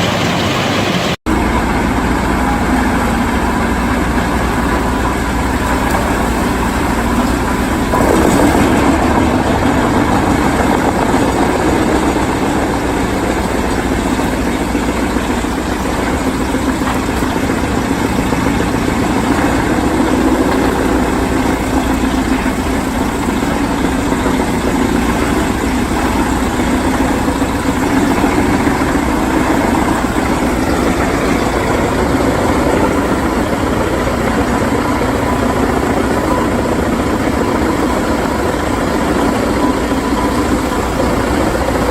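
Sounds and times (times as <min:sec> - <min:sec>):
wood chipper running: 0:00.0 - 0:41.9.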